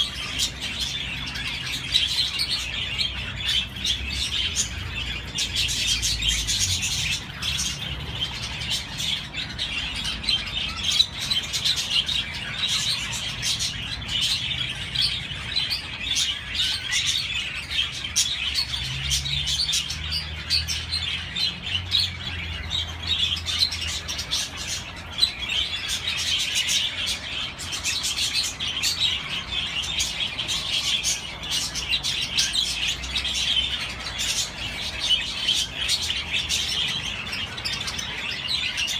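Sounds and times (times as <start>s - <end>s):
budgerigars warbling: 0.0s - 38.9s.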